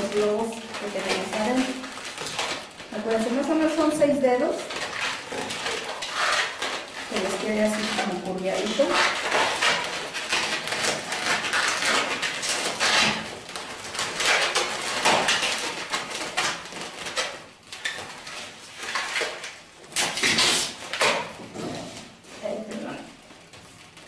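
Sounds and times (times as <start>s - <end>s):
balloons squeaking: 0.0s - 24.0s.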